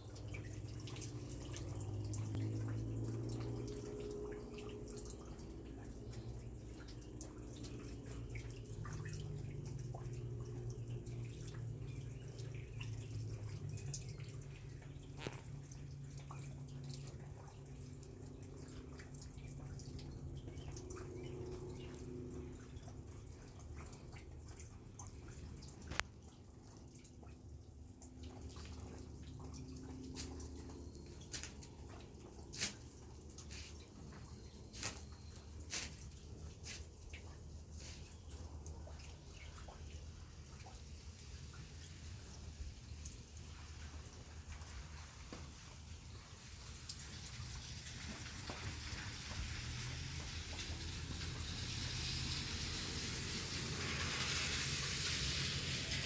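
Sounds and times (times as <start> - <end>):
rain drops ticking: 0.0 - 56.0.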